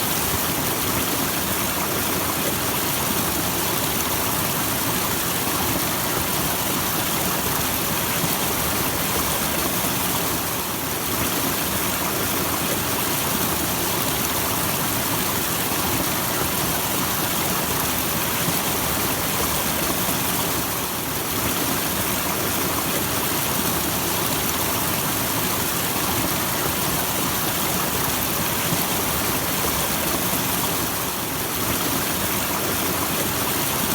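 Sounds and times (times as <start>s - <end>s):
small waterfall rushing: 0.0s - 33.9s.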